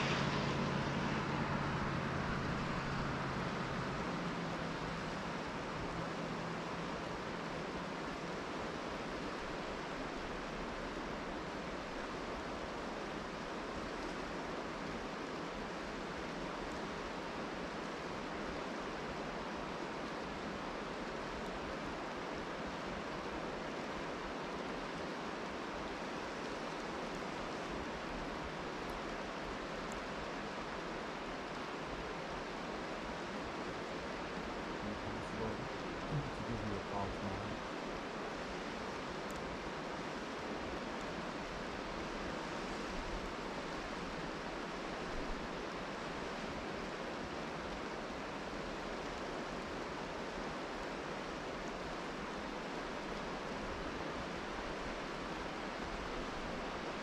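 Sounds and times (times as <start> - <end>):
rain: 0.0 - 57.0
river water rushing: 0.0 - 57.0.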